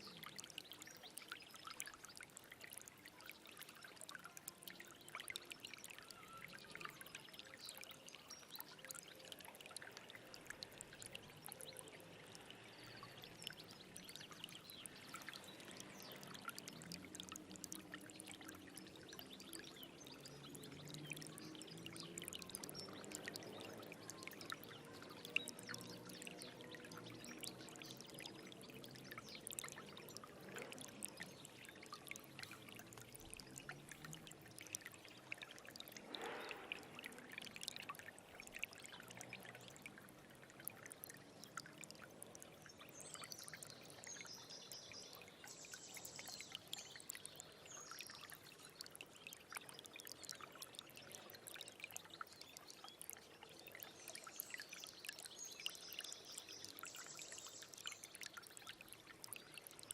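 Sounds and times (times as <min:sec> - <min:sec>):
small water splashes: 0:00.0 - 0:59.9
stream trickling over stones: 0:00.0 - 0:59.9.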